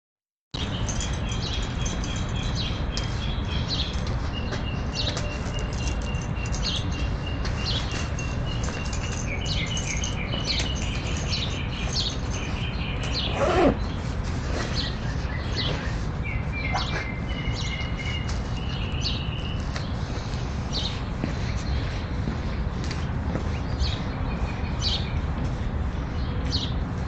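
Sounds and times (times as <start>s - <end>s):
small birds chirping: 0.6s - 27.0s.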